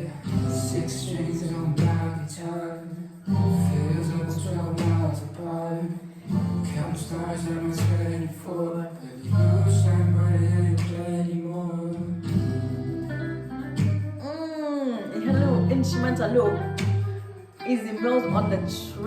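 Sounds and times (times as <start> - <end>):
person singing: 0.0 - 19.0.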